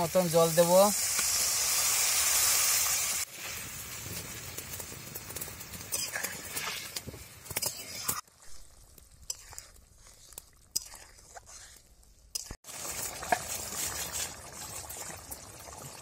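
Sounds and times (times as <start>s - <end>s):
gravy sizzling in a pan: 0.0s - 16.0s.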